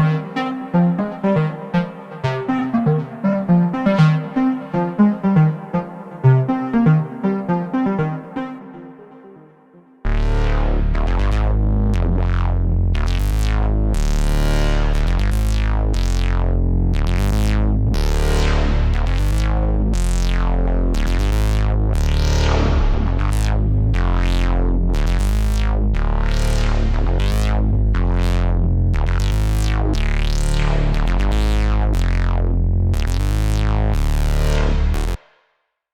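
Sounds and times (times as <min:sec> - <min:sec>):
plucked synth notes with filter sweeps: 0:00.0 - 0:35.2
synthesizer bass line: 0:00.0 - 0:35.2.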